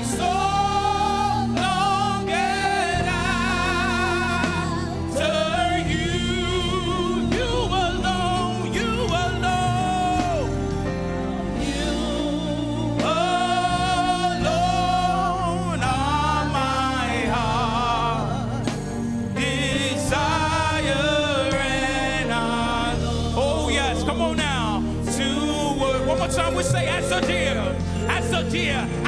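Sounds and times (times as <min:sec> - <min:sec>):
instrumental backing: 0:00.0 - 0:29.0
voices singing gospel song: 0:00.0 - 0:29.0.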